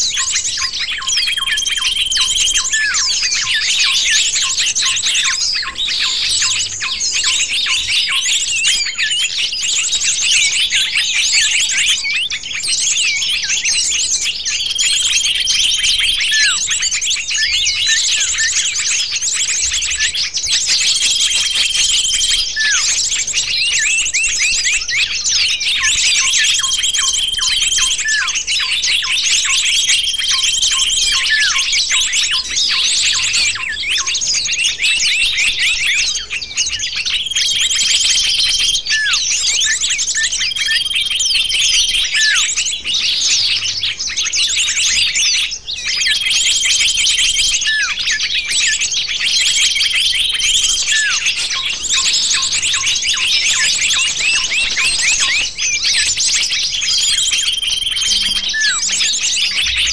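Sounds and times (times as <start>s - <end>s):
songbirds chattering and chirping: 0.0s - 59.9s.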